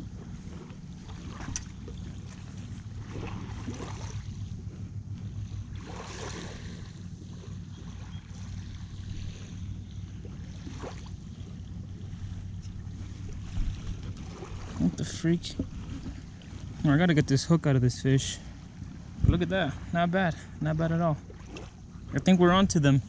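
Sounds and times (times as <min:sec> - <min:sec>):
steady low hum: 0:00.0 - 0:23.0
wind buffeting microphone: 0:00.0 - 0:23.0.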